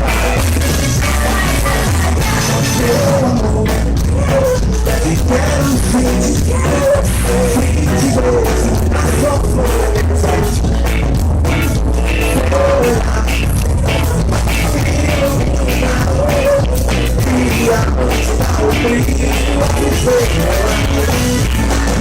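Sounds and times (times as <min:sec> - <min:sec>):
person singing: 0:00.0 - 0:11.0, 0:12.1 - 0:22.0
drum beat: 0:00.0 - 0:22.0
rock-pop band playing: 0:00.0 - 0:22.0.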